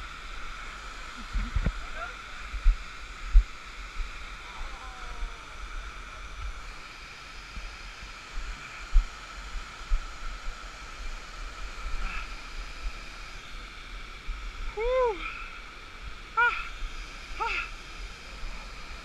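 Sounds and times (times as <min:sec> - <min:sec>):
creek water rushing over rocks: 0:00.0 - 0:19.0.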